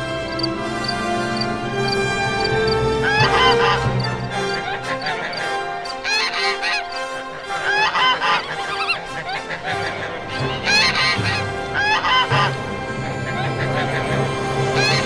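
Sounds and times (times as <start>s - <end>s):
background music: 0.0s - 15.0s
geese honking: 0.0s - 15.0s.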